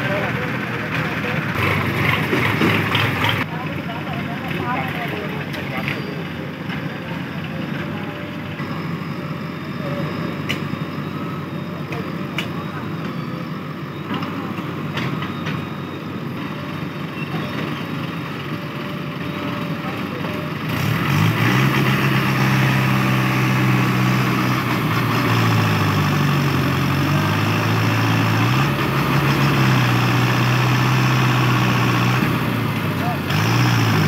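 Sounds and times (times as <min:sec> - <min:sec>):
diesel engines idling: 0:00.0 - 0:34.0
tractor engine revving: 0:00.0 - 0:34.0.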